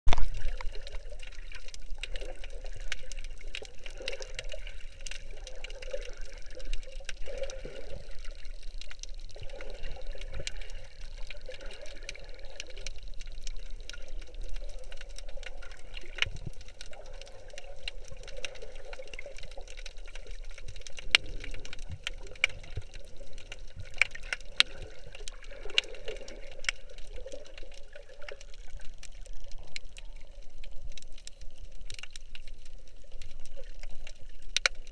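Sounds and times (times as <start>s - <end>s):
muffled underwater wash: 0.1s - 34.9s
small sharp underwater clicks: 0.1s - 34.9s.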